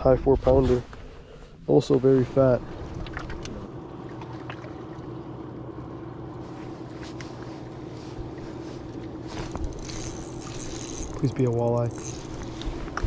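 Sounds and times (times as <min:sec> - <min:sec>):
water noise: 0:01.8 - 0:13.0
boat motor humming: 0:02.0 - 0:13.0.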